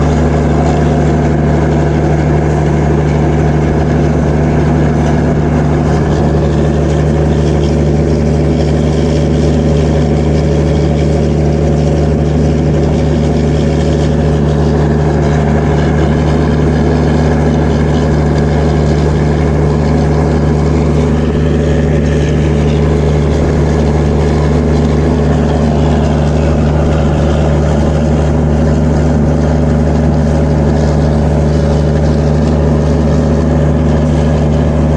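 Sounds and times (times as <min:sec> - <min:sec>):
diesel generator humming: 0:00.0 - 0:34.9.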